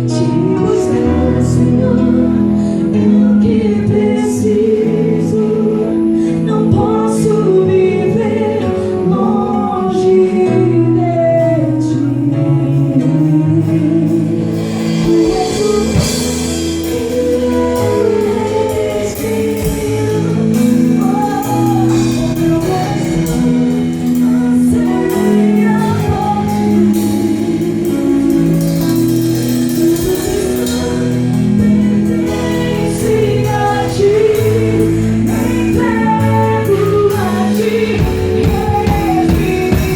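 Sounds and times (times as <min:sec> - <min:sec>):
gospel band singing: 0:00.0 - 0:39.9.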